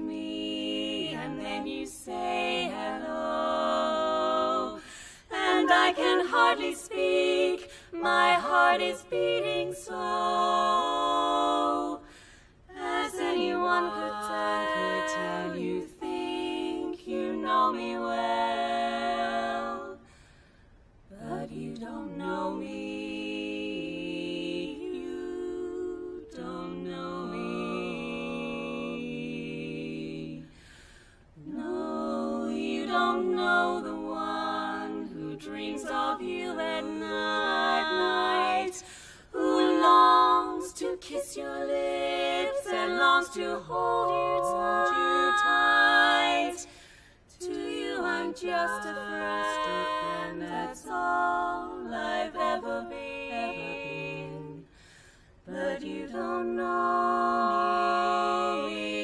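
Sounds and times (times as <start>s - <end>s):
women singing a cappella harmony: 0.0s - 59.0s.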